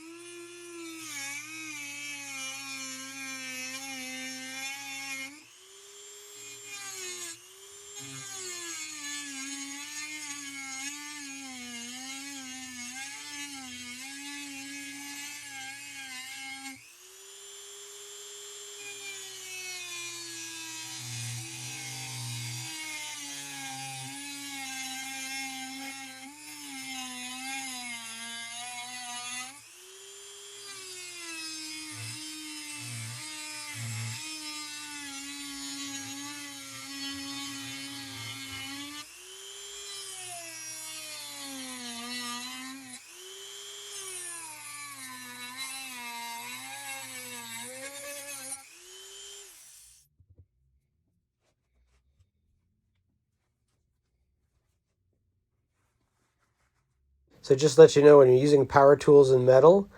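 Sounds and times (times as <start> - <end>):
rotary tool cutting metal: 0.0 - 50.0.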